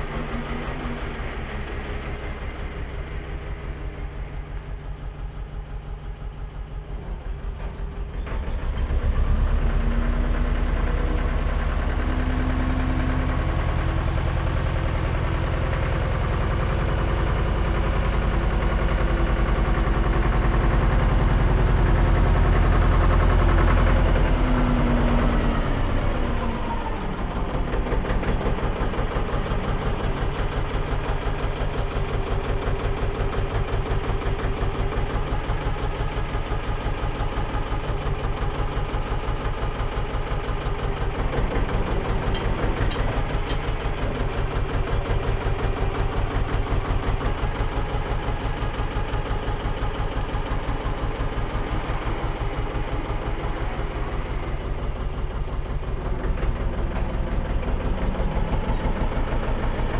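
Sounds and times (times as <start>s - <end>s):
wheel loader engine running: 0.0s - 59.9s.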